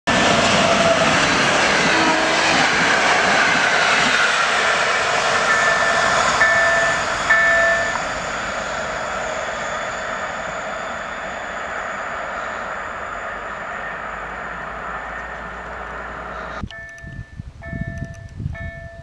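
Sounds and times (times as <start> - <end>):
train passing at speed: 0.1 - 19.0.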